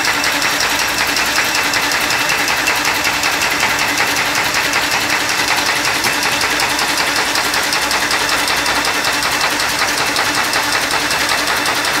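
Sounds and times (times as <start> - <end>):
continuous machine hum: 0.0 - 12.0
machine clattering: 0.0 - 12.0.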